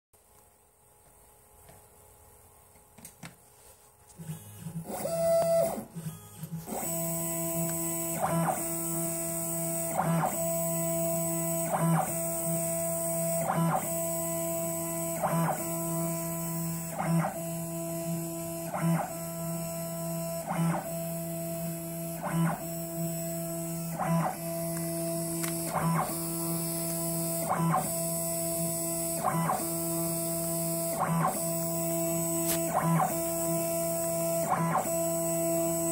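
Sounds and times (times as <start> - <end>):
stepper motor whine: 4.2 - 35.9.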